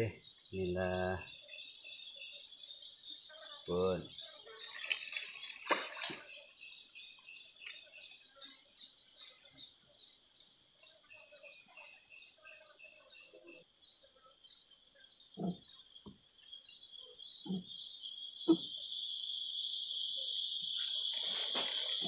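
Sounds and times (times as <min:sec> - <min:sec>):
faint bird chirps: 0:00.0 - 0:22.0
insect chorus hiss: 0:00.0 - 0:22.0
pulsing insect call: 0:00.0 - 0:22.0.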